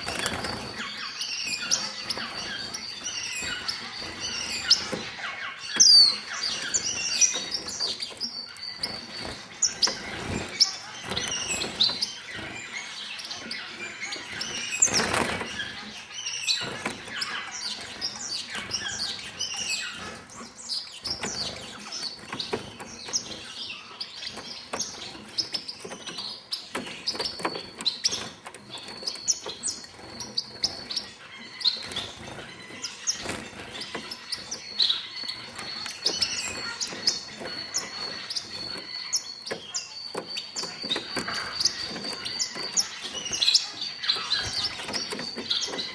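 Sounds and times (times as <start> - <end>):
finches chirping: 0.0 - 45.9.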